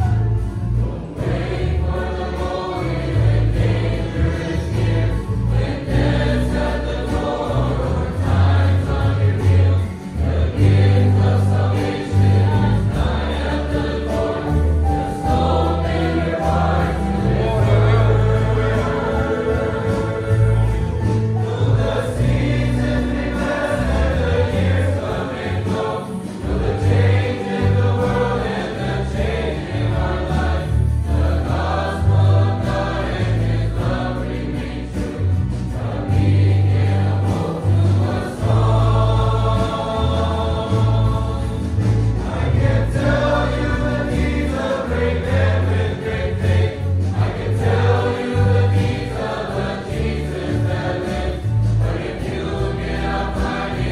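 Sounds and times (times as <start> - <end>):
choir singing a hymn: 0.0 - 53.9
instrumental accompaniment with bass: 0.0 - 53.9.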